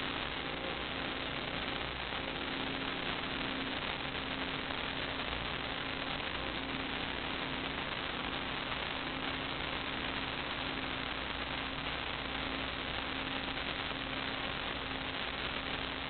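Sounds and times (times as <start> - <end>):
faint constant hum: 0.0 - 16.0
steady hiss: 0.0 - 16.0.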